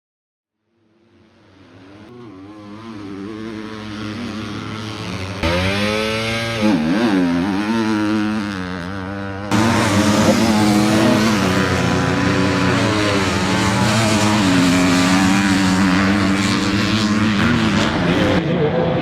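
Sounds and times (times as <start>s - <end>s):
motocross bike engines racing: 1.0s - 19.0s.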